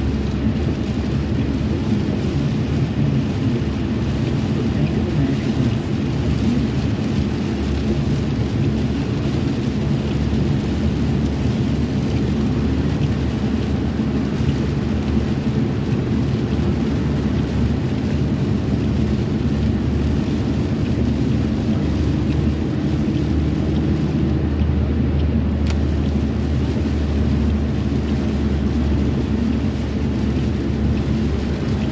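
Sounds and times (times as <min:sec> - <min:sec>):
car driving rumble: 0:00.0 - 0:31.9.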